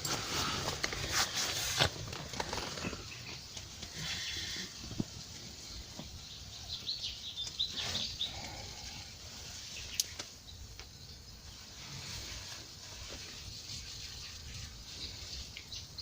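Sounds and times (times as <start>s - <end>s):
small birds chirping: 0.4s - 16.0s.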